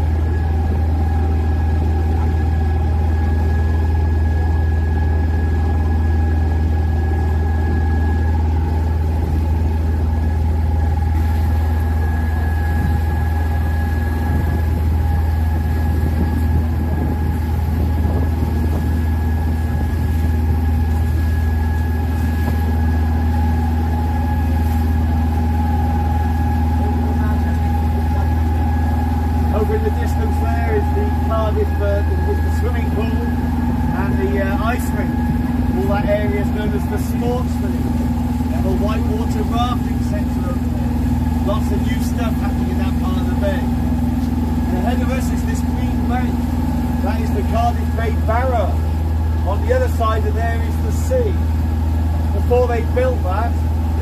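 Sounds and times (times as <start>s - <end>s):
boat engine droning: 0.0s - 54.0s
thin steady whine: 0.0s - 54.0s.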